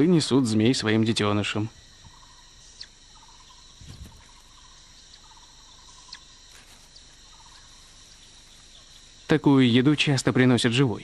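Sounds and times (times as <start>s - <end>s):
insects buzzing and trilling: 0.0s - 11.0s.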